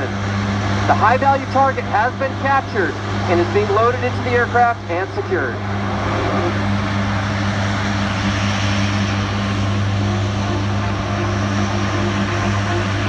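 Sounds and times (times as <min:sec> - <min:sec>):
turboprop engines running: 0:00.0 - 0:13.0.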